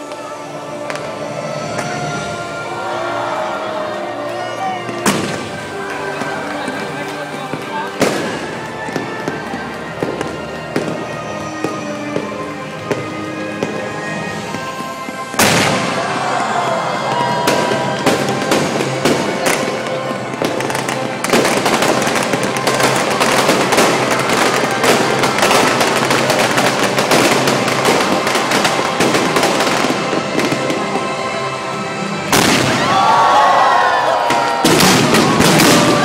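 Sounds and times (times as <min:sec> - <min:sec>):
fireworks bangs and crackling: 0:00.0 - 0:36.0
music: 0:00.0 - 0:36.0.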